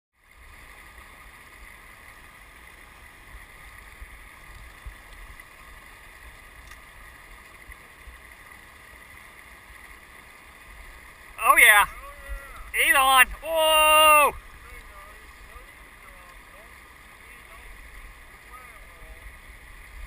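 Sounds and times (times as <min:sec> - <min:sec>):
river water over rocks: 0:00.2 - 0:20.0.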